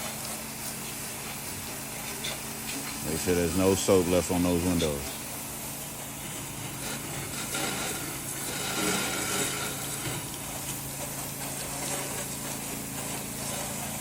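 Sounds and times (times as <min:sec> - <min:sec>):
pressure washer engine running: 0:00.0 - 0:14.0
water spray hissing: 0:00.0 - 0:14.0.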